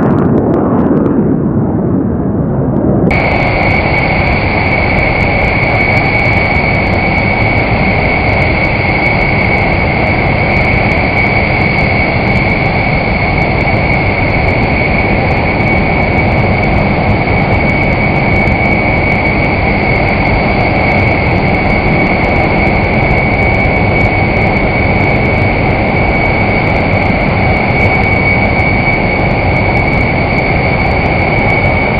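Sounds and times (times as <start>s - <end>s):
high whine: 0.0s - 31.9s
jet engine running: 0.0s - 31.9s.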